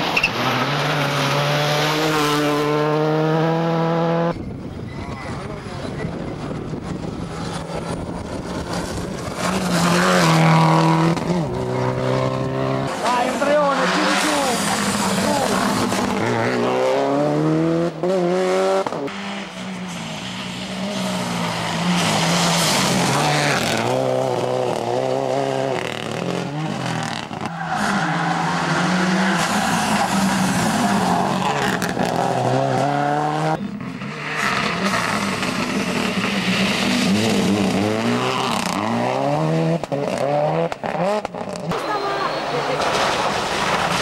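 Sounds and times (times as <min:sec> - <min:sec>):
rally car engine revving: 0:00.0 - 0:44.0.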